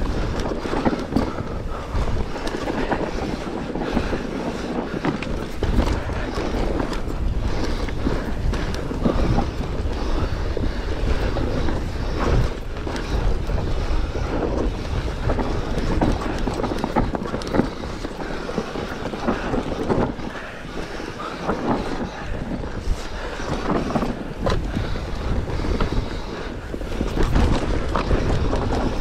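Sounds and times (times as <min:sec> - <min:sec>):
bike rattling over bumps: 0:00.0 - 0:29.0
wind buffeting microphone: 0:00.0 - 0:29.0.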